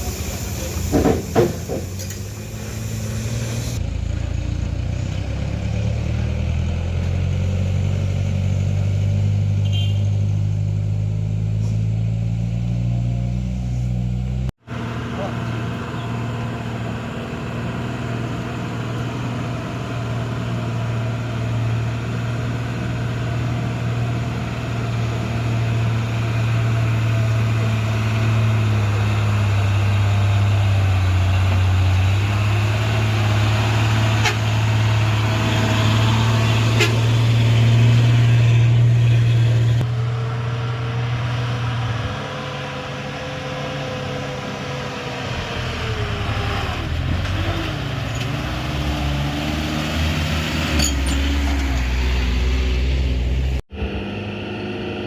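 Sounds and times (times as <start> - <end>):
heavy truck engine droning: 0.0 - 55.0.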